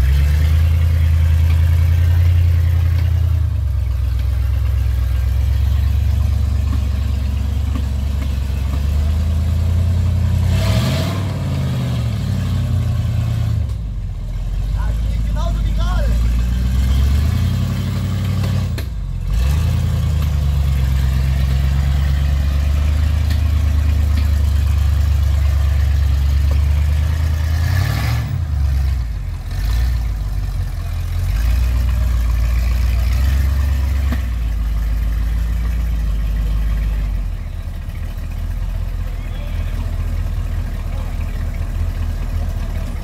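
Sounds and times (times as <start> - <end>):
off-road buggy engine rumbling: 0.0 - 43.0.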